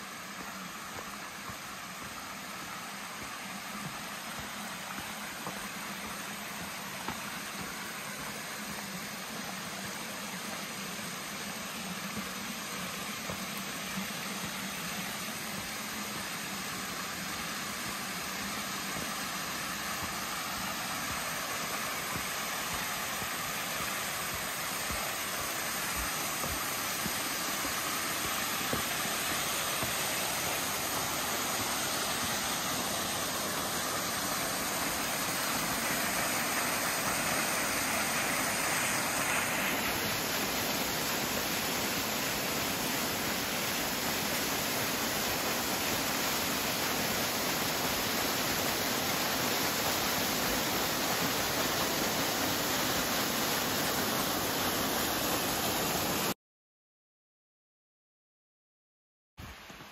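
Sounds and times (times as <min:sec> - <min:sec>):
waterfall rushing: 0:00.0 - 0:56.4.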